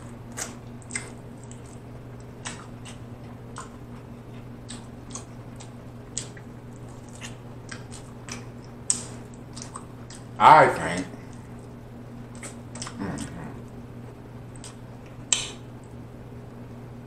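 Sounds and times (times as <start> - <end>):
chewing and biting meat: 0.0 - 10.4, 11.3 - 13.7, 14.4 - 15.7
faint low hum: 0.0 - 17.0.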